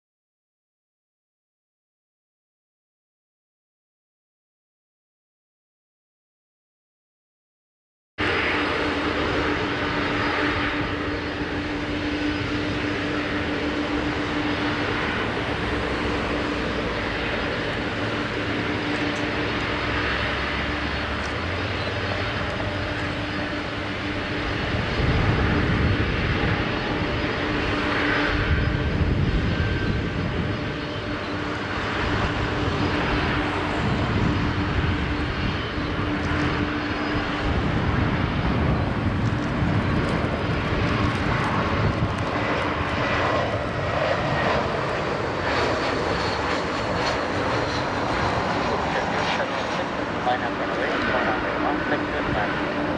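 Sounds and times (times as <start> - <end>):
jet engine hiss and hum: 8.2 - 52.9.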